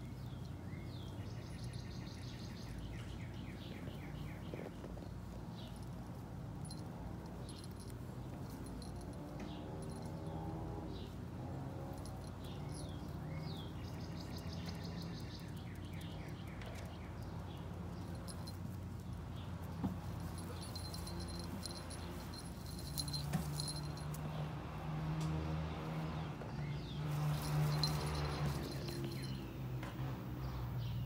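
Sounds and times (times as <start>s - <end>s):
birds chirping: 0.0s - 24.4s, 26.1s - 31.0s.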